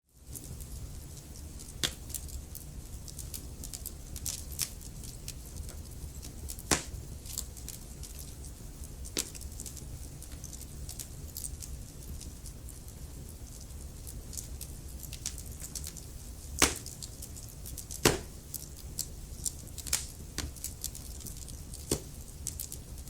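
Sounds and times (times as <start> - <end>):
wood fire crackling: 0.1 - 23.0.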